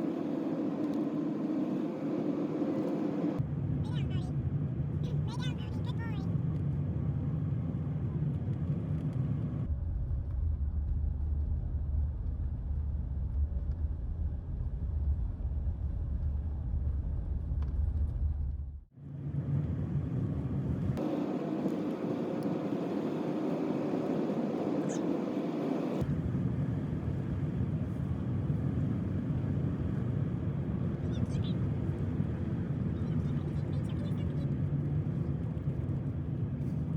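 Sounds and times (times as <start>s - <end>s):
vehicle road and engine rumble: 0.0s - 36.9s.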